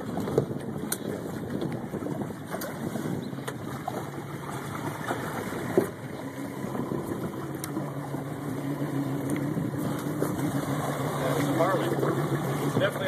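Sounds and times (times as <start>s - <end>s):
boat engine idling: 0.0s - 13.0s
water noise: 0.0s - 13.0s
wind: 0.0s - 13.0s.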